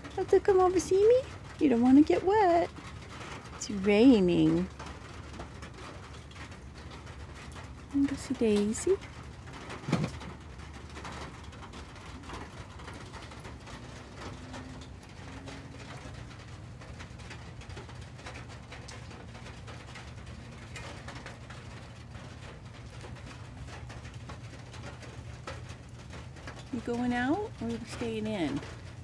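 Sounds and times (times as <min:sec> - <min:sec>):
light rain pattering: 0:00.0 - 0:29.0.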